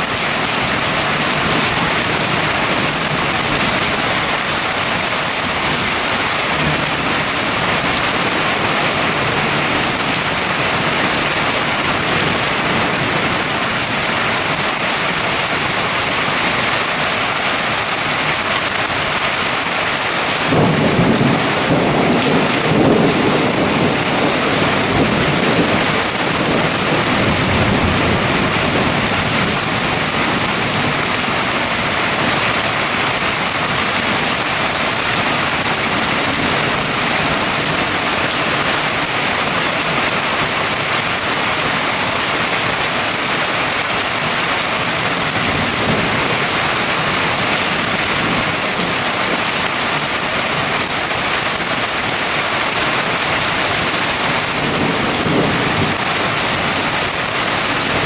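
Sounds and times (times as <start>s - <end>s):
thunder rumbling: 0.0s - 16.8s, 20.1s - 58.0s
heavy rain falling: 0.0s - 58.0s.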